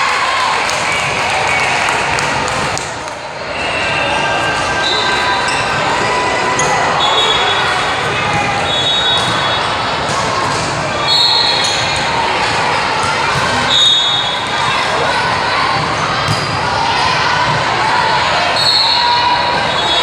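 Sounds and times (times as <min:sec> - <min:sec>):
crowd chatter in gym: 0:00.0 - 0:20.0.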